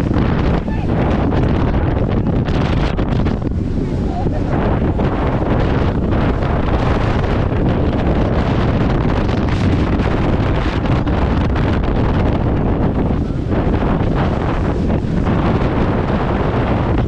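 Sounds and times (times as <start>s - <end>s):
boat rushing through water: 0.0s - 17.0s
wind buffeting microphone: 0.0s - 17.0s.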